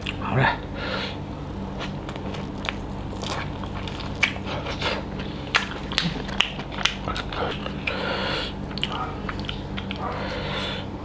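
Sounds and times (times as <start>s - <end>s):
steady low hum: 0.0s - 11.0s
person chewing food: 1.7s - 11.0s.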